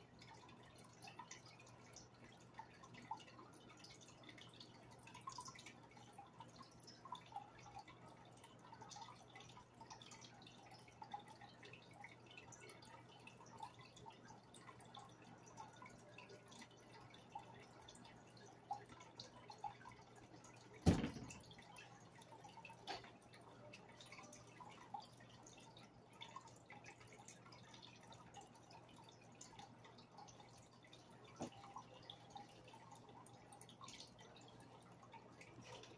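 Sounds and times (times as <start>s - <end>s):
low steady hum: 0.0s - 35.9s
water dripping in aquarium: 0.0s - 35.9s.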